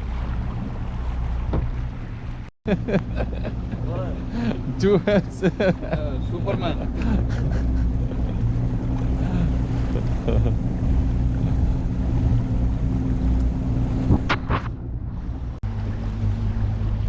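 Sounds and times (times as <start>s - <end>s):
motorboat engine running: 0.0s - 17.0s
water noise: 0.0s - 17.0s
wind: 0.0s - 17.0s.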